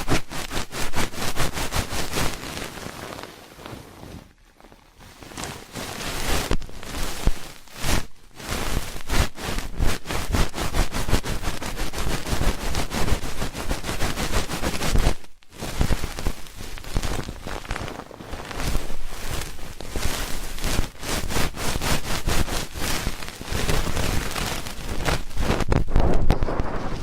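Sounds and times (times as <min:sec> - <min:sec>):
ear pick scratching: 0:00.0 - 0:03.3, 0:04.6 - 0:27.0.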